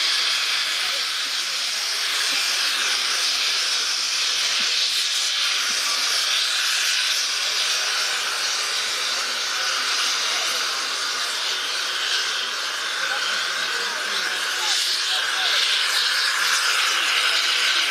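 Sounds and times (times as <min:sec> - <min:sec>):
steam locomotive venting steam: 0:00.0 - 0:17.9.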